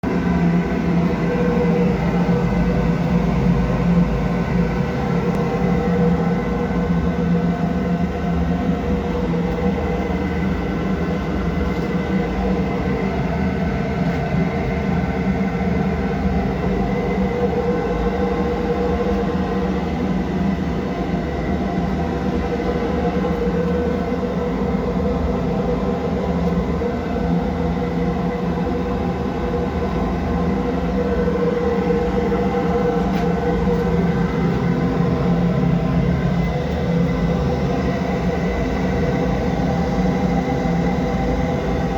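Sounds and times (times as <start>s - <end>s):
constant humming tones: 0.0s - 41.9s
steam boiler burner roaring: 0.0s - 41.9s.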